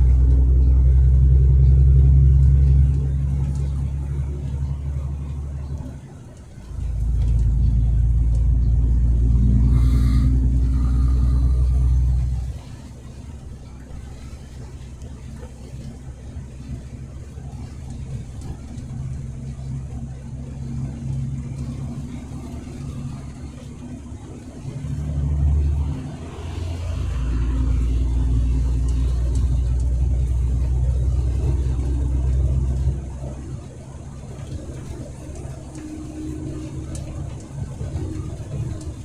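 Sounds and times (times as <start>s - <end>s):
truck engine and road rumble: 0.0s - 39.0s.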